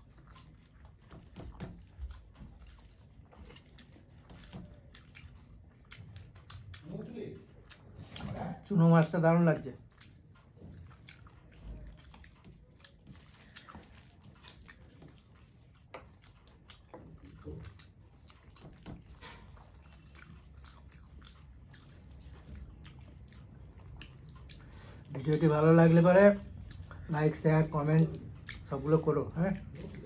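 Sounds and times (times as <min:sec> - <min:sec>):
people chewing and mouth smacks: 0:00.0 - 0:30.0.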